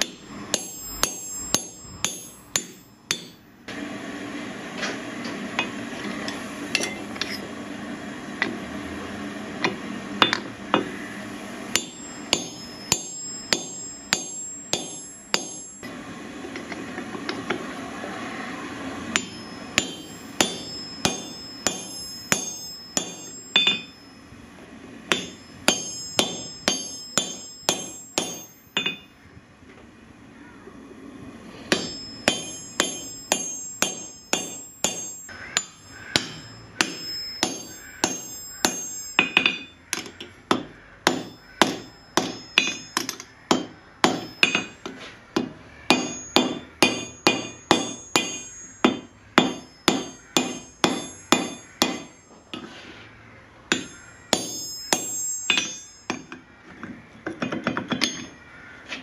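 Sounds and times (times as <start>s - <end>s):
hammer ringing on hot steel: 0.0s - 3.8s, 5.2s - 7.4s, 9.6s - 11.0s, 11.7s - 16.0s, 18.2s - 29.2s, 31.4s - 52.8s, 53.7s - 56.6s, 57.4s - 58.5s.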